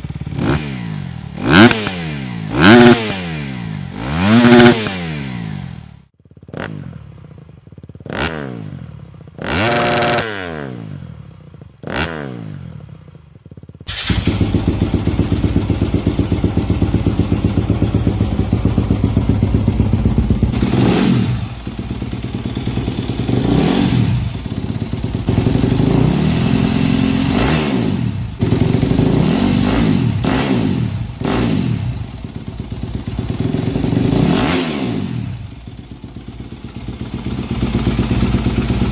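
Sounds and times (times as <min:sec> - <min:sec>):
motorbike engine revving: 0:00.0 - 0:07.4, 0:08.0 - 0:13.0, 0:13.9 - 0:38.9.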